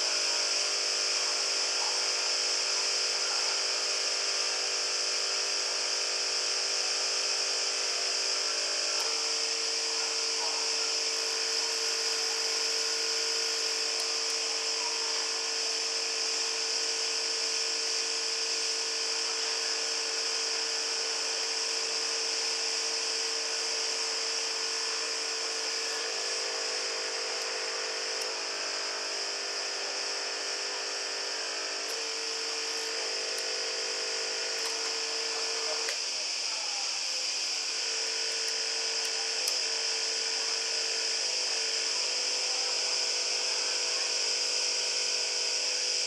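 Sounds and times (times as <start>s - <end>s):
small vacuum pump humming: 0.0s - 46.0s.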